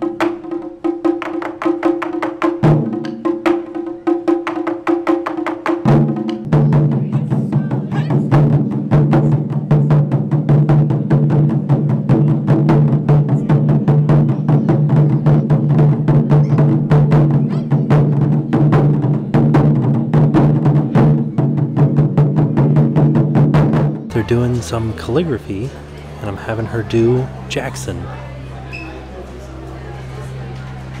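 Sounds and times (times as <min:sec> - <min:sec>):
taiko drums beating: 0:00.0 - 0:28.1.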